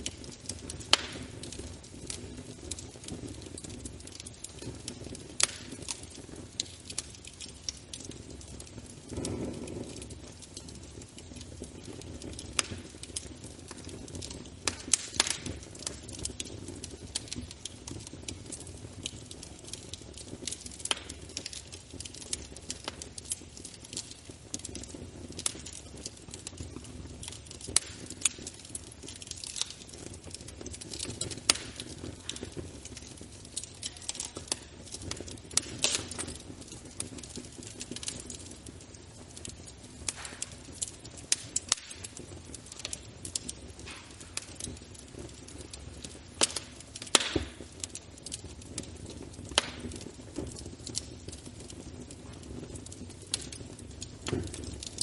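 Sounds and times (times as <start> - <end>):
low rumble of flames: 0.0 - 55.0
wood fire crackling and popping: 0.0 - 55.0.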